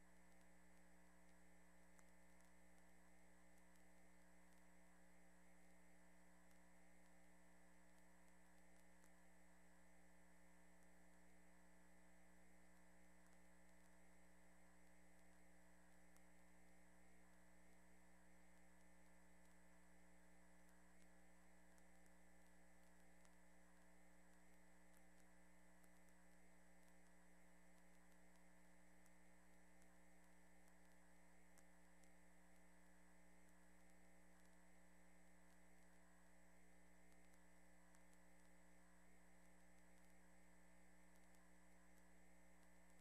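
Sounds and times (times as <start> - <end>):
faint electrical hum: 0.0 - 43.0.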